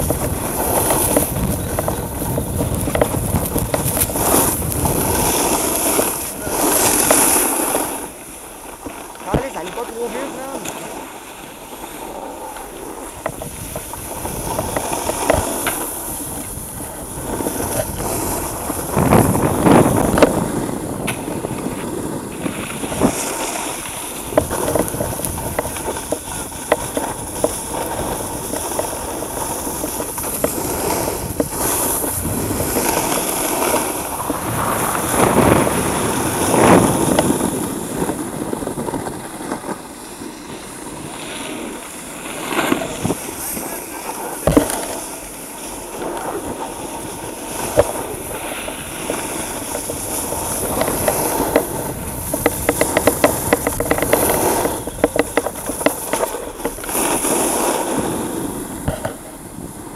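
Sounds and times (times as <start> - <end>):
wind buffeting microphone: 0.0 - 8.6, 12.9 - 59.9
skis scraping on snow: 0.0 - 59.9.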